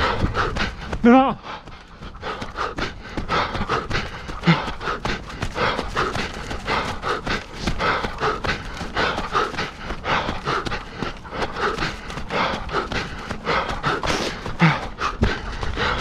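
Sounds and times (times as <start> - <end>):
hard breathing: 0.0 - 16.0
running footsteps on trail: 0.0 - 16.0.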